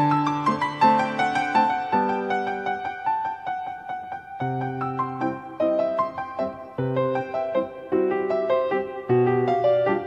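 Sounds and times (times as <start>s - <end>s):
slow piano melody: 0.0s - 10.0s.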